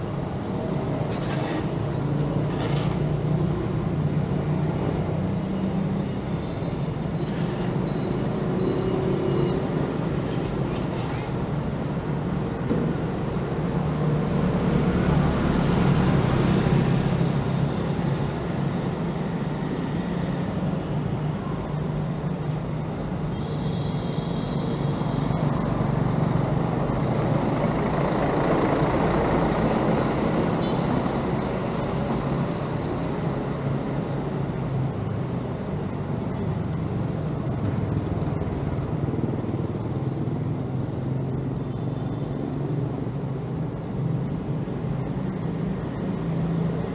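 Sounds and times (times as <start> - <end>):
bus passing close by: 0.0 - 23.3, 24.6 - 46.9
street traffic: 0.0 - 46.9.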